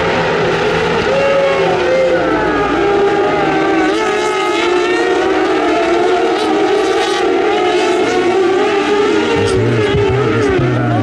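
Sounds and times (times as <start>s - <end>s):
racing buggy engines revving: 0.0s - 11.0s.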